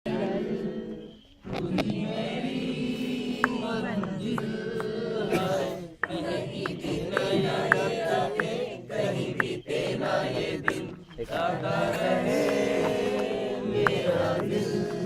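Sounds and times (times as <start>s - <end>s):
group of people chanting: 0.1s - 15.0s.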